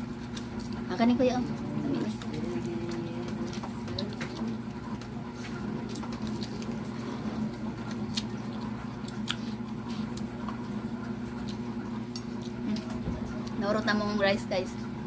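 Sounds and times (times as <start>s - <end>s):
steady low hum: 0.0s - 15.0s
chewing: 0.1s - 13.6s.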